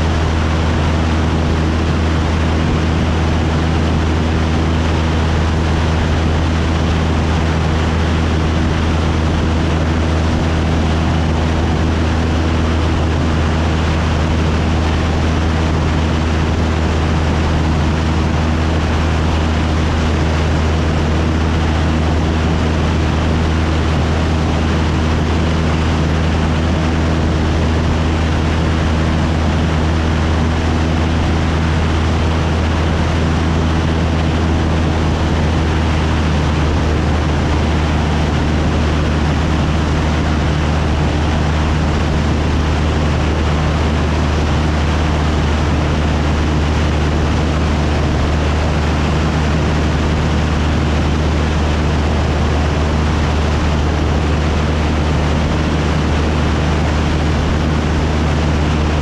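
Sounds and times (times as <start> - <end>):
propeller engine droning: 0.0 - 59.0
rushing air: 0.0 - 59.0.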